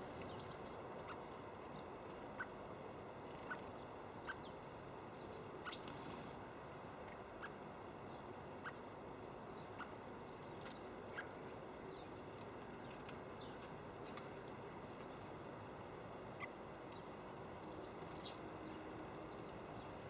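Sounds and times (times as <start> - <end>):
small birds chirping: 0.0 - 14.3, 14.9 - 20.0
steady background hiss: 0.0 - 20.0.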